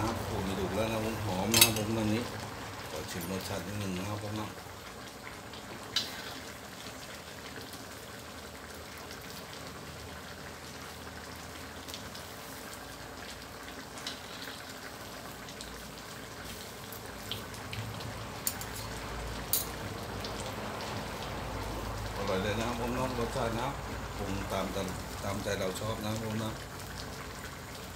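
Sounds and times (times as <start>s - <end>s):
curry bubbling and hissing: 0.0s - 27.9s.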